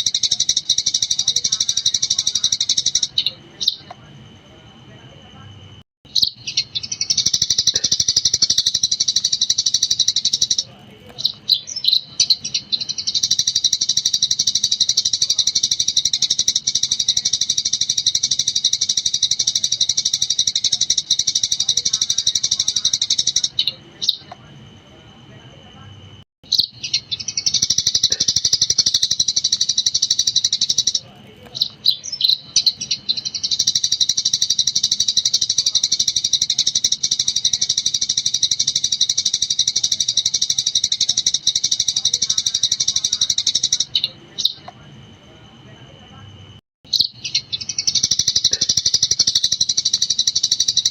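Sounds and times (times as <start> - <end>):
sparrow chattering chirps: 0.0 - 4.0, 6.1 - 24.4, 26.4 - 44.8, 46.9 - 50.9.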